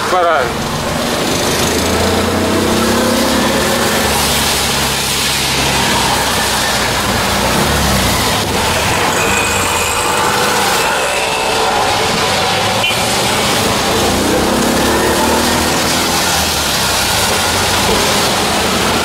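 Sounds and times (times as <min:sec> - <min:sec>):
auto-rickshaw engine running: 0:00.0 - 0:19.0
tyres hissing on wet road: 0:00.0 - 0:19.0.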